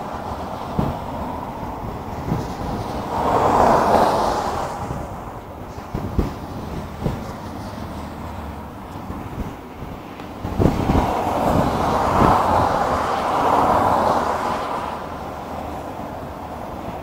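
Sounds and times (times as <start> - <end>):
car passing at speed: 0.0 - 17.0.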